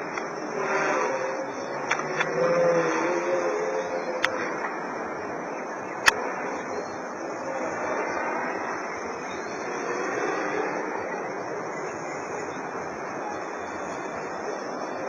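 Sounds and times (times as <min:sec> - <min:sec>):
quadcopter propellers buzzing: 0:00.0 - 0:15.0.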